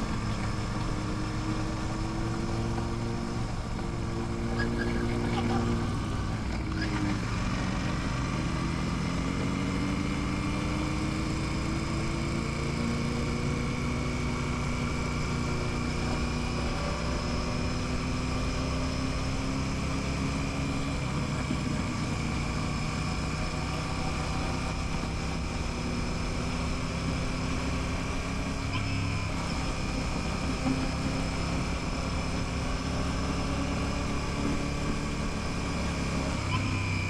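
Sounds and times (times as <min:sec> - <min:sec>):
motorcycle engine running: 0:00.0 - 0:37.0
road noise: 0:00.0 - 0:37.0.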